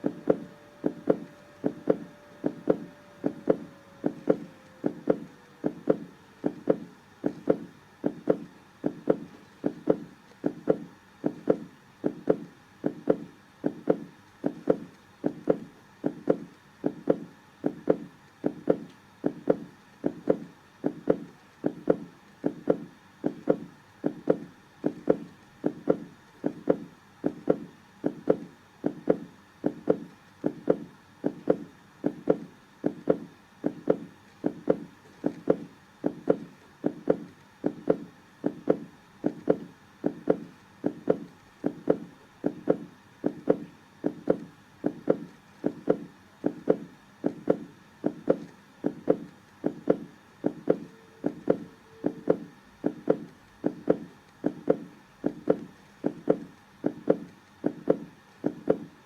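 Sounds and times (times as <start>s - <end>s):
heartbeat double thumps: 0.0s - 59.0s.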